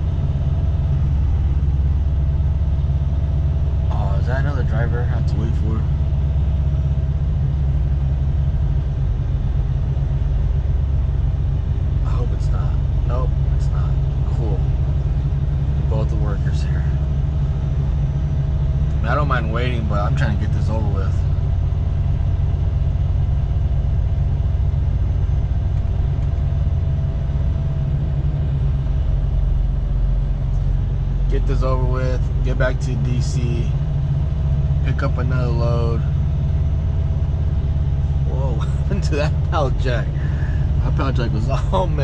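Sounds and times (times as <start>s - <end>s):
diesel truck engine running: 0.0s - 42.0s
faint steady hum: 0.0s - 42.0s.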